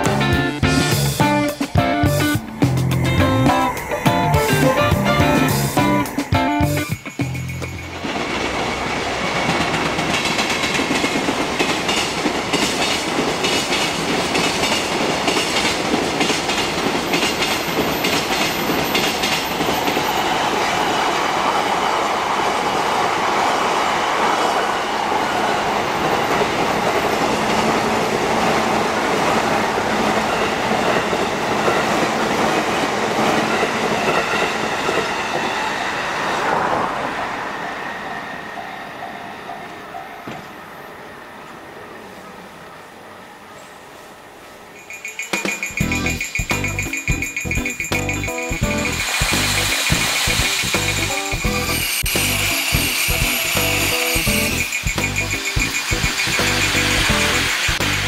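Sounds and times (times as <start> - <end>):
train wheels clacking over rails: 0.0 - 36.0, 44.8 - 58.0.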